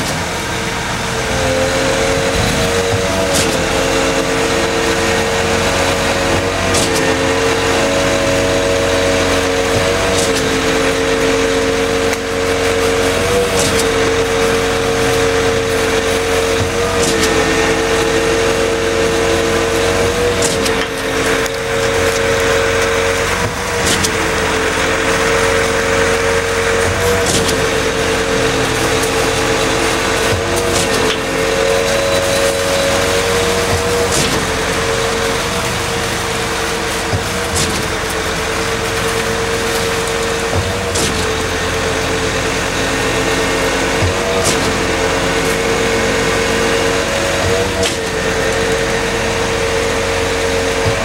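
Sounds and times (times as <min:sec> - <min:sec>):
concrete pump engine drone: 0:00.0 - 0:51.0.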